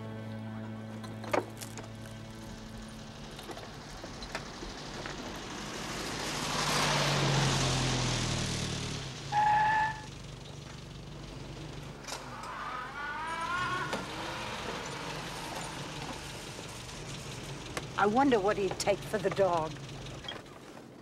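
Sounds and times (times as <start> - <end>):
car driving past: 0.0 - 18.0.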